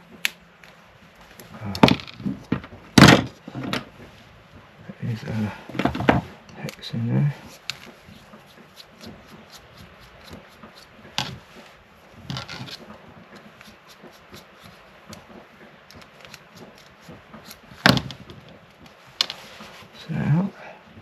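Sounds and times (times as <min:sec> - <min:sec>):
plastic parts rubbing and scraping: 0:01.2 - 0:04.2, 0:05.0 - 0:20.1.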